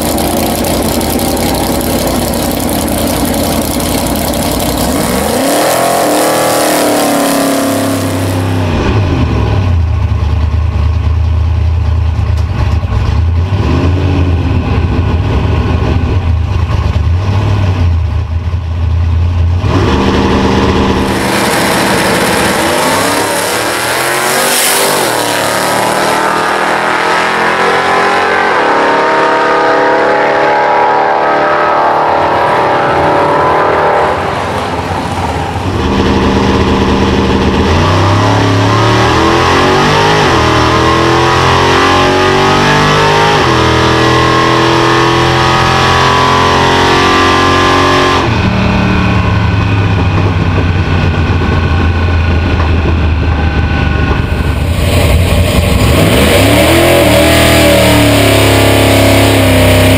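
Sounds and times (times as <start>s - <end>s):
car engine at full throttle: 0.0s - 59.9s.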